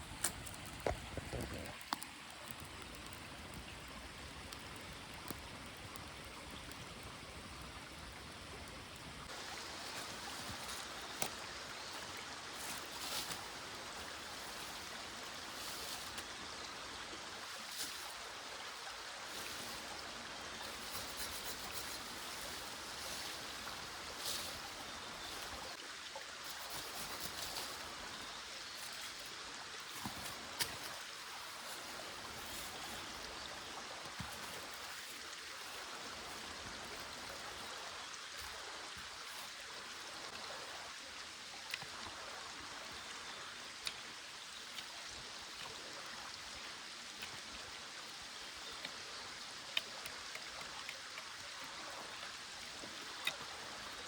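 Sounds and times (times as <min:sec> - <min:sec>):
small stream running: 0:00.0 - 0:54.0.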